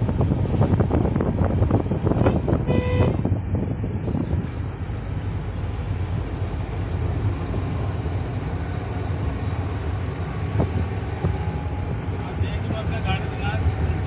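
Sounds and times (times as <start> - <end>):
car engine rumble: 0.0 - 14.0.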